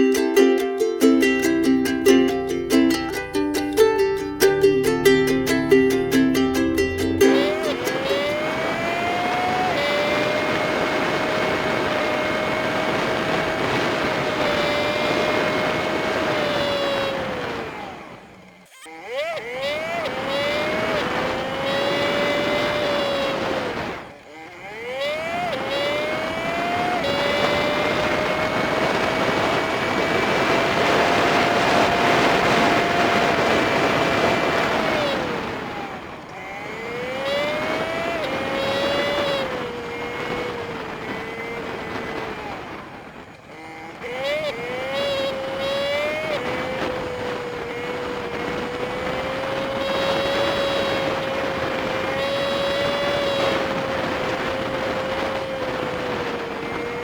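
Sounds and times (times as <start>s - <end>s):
wind and road noise: 0.0s - 57.0s
sped-up motorbike engine whine: 1.0s - 57.0s.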